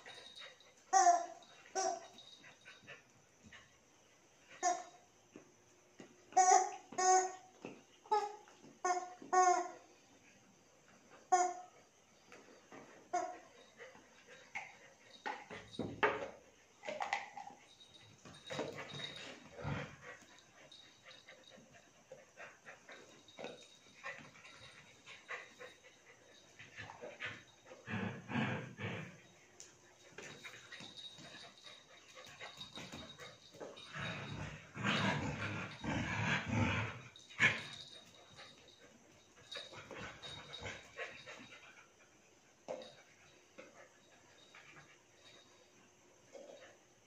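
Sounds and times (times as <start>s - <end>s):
dogs playing tug: 0.0s - 3.7s, 6.0s - 9.8s, 12.3s - 46.8s.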